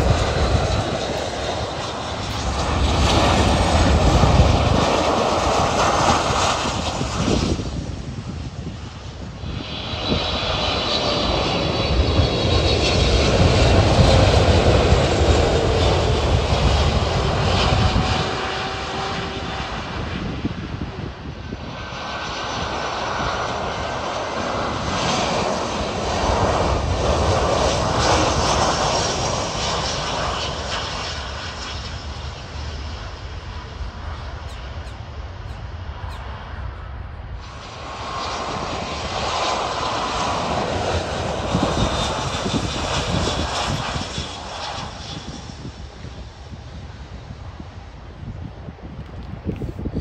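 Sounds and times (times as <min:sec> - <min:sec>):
jet airliner engines rumbling: 0:00.0 - 0:50.0.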